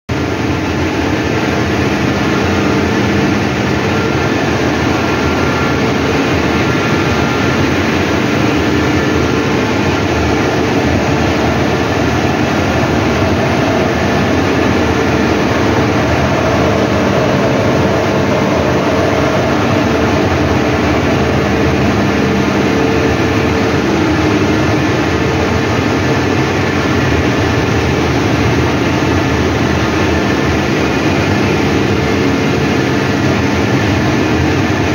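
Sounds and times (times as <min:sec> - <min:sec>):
fans and motors droning: 0:00.1 - 0:34.9.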